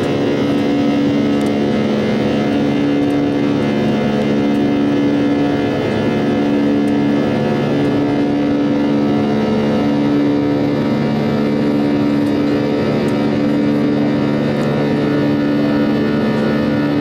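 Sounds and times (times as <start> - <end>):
aircraft engine drone in cabin: 0.0 - 17.0.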